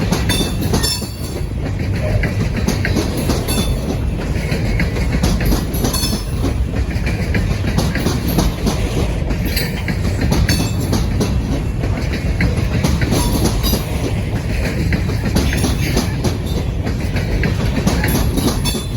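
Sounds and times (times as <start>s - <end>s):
train rail rumble: 0.0s - 18.9s
wheels clanking over rail joints: 0.0s - 18.9s.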